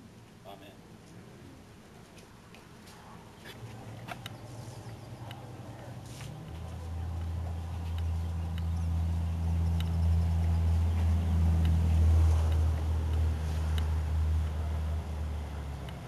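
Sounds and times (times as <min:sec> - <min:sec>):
low engine hum: 0:01.1 - 0:16.0.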